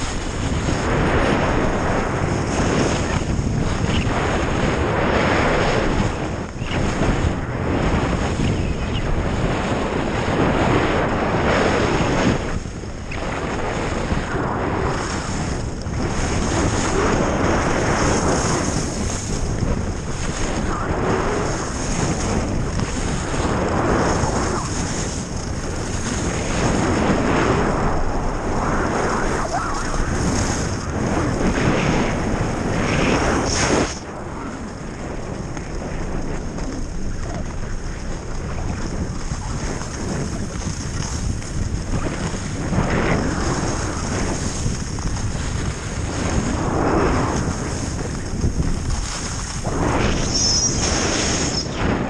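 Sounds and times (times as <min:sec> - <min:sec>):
skis scraping over packed snow: 0:00.0 - 0:52.0
wind rushing over microphone: 0:00.0 - 0:52.0.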